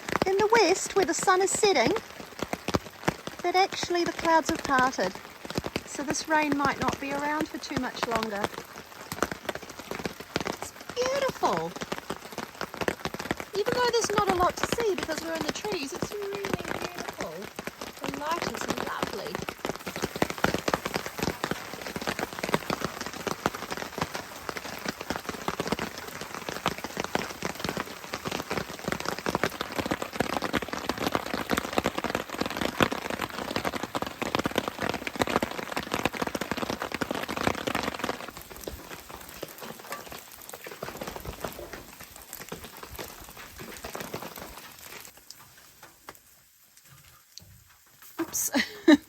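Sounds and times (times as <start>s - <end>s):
heavy rain drumming on tarp: 0.0s - 49.0s.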